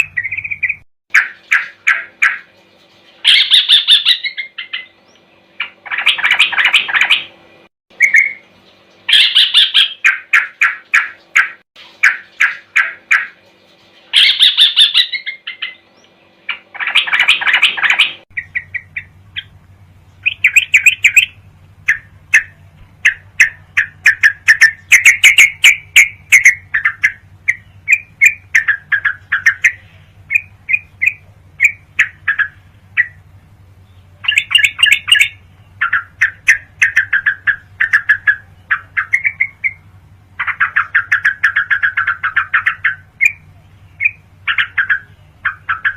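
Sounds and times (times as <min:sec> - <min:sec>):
bird chattering chirps: 0:00.0 - 0:13.5, 0:14.1 - 0:45.9
steady low hum: 0:00.0 - 0:45.9.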